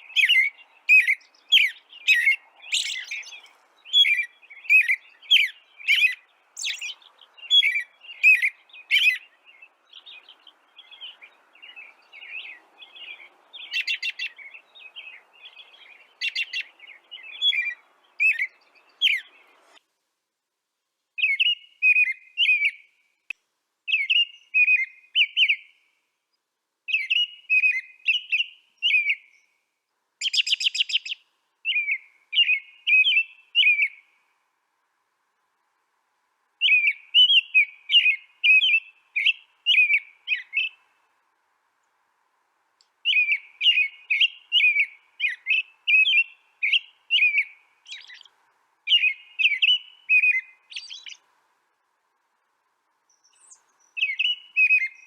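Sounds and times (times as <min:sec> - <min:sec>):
songbird chirping: 0:00.0 - 0:20.0, 0:20.7 - 0:55.0.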